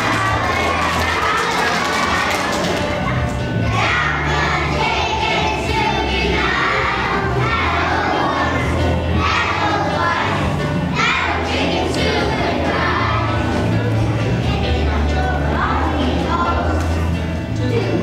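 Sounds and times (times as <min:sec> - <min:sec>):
children singing loudly: 0:00.0 - 0:18.0
crowd of children's voices: 0:00.0 - 0:18.0
music accompaniment: 0:00.0 - 0:18.0.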